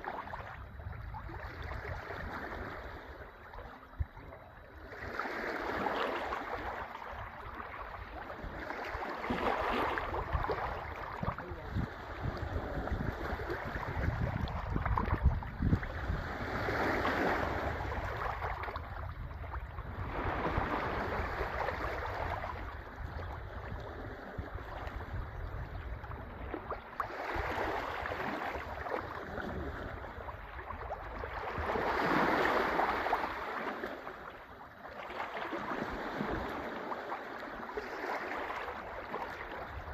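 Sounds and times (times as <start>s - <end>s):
wind rumbling on microphone: 0.0s - 34.6s, 35.4s - 39.9s
sea waves washing in: 0.0s - 39.9s.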